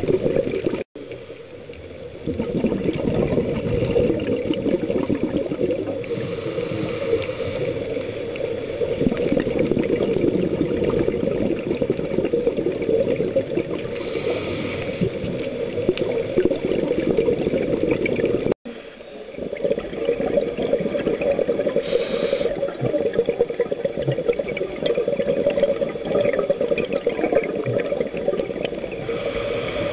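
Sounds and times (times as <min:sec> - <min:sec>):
muffled underwater rush: 0:00.0 - 0:29.9.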